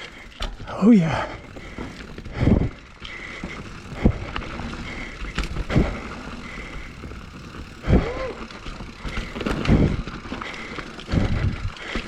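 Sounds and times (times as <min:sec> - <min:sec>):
bike tyre and drivetrain rattle: 0:00.0 - 0:12.0.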